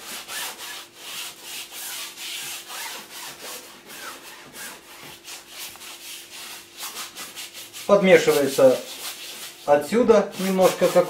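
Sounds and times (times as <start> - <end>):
paint brush scrubbing canvas: 0.0 - 11.0.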